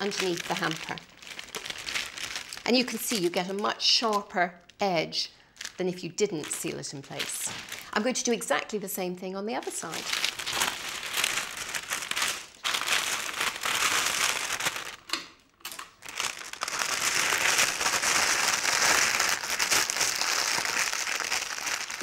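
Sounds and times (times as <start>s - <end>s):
cellophane bag crinkling: 0.0s - 4.7s, 5.5s - 8.1s, 9.6s - 22.0s.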